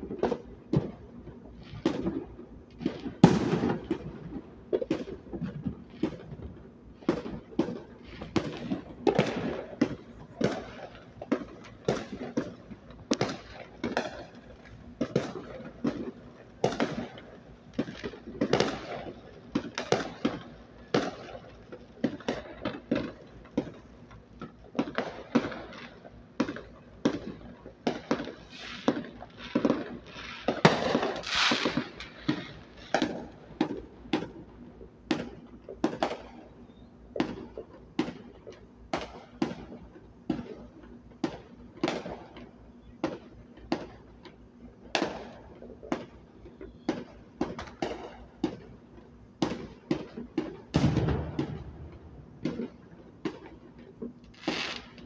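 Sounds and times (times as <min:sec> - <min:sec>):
fireworks bangs and pops: 0:00.0 - 0:55.0
fireworks crackling burst: 0:00.0 - 0:55.0.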